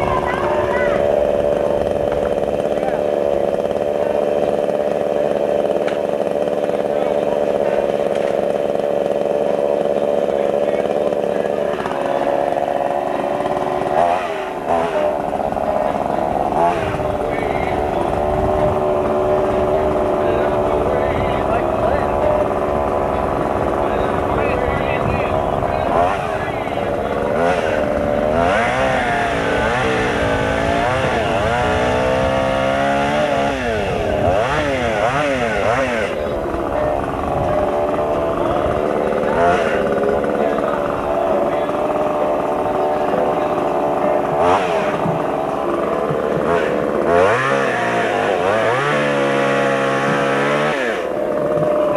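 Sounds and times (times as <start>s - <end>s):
chainsaw engine running: 0.0s - 51.9s.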